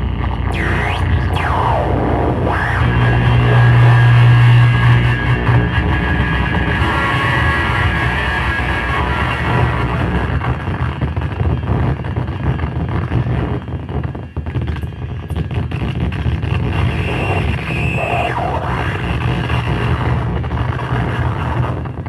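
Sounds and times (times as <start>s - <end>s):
distorted electronic noise: 0.0s - 22.0s.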